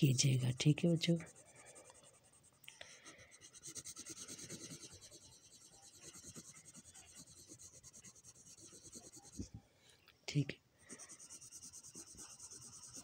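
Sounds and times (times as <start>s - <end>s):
pencil scratching on paper: 1.0s - 9.5s, 10.9s - 13.0s.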